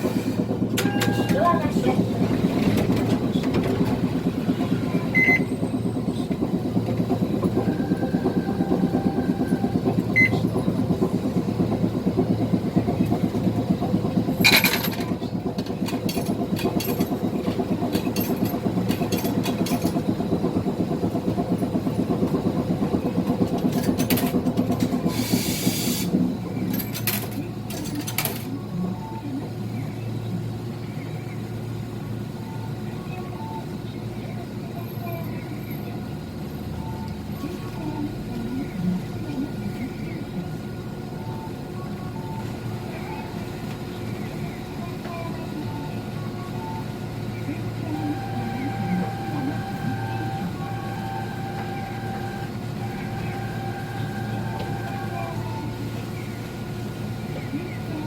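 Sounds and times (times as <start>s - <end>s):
tram low hum: 0.0s - 58.0s.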